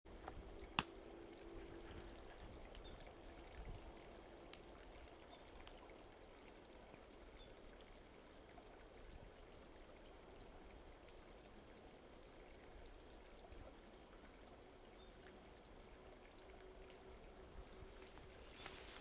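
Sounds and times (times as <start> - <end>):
stream murmuring under ice: 0.1 - 19.0.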